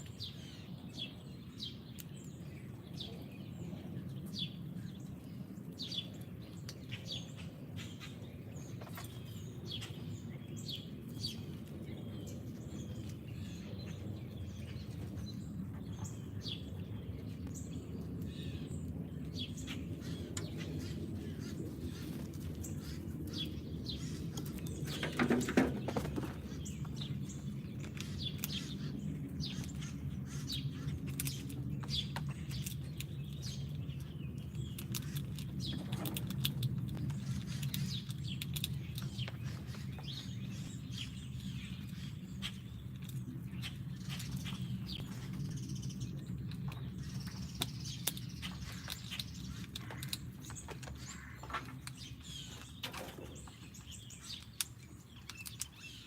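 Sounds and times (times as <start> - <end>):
low outdoor rumble: 0.0 - 56.0
songbirds chirping and calling: 0.0 - 56.0.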